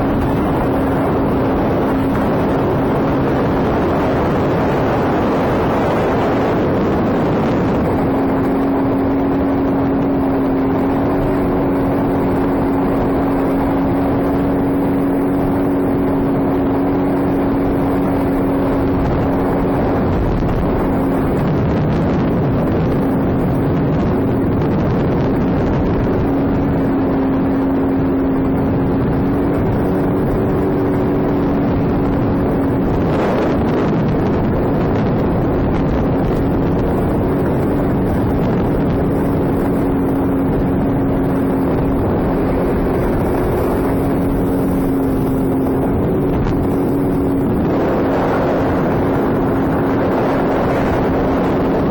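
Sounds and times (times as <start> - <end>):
jet ski engine running: 0.0 - 51.9
rush of wind and water: 0.0 - 51.9.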